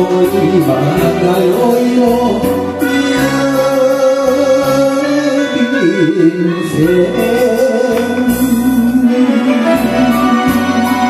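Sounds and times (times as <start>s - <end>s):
karaoke backing track: 0.0s - 11.0s.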